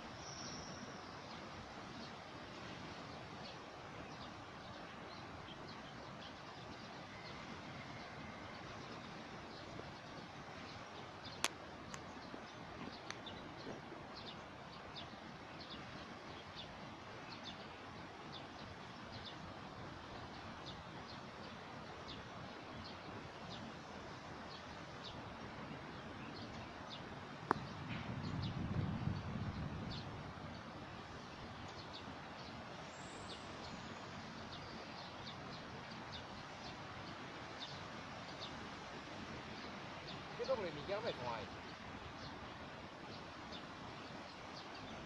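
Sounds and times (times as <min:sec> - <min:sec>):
small birds chirping: 0:00.0 - 0:45.0
steady outdoor hiss: 0:00.0 - 0:45.0.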